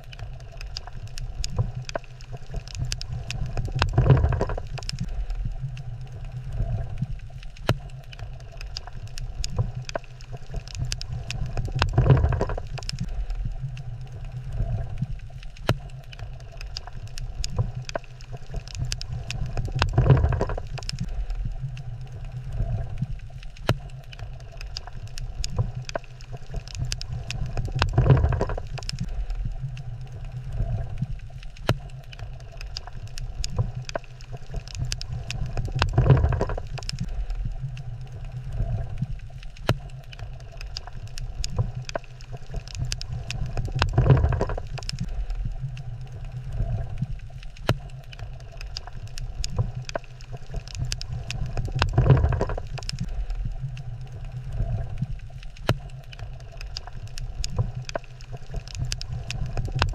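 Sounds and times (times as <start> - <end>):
low underwater rumble: 0.0 - 59.9
sharp reef clicks: 0.0 - 59.9.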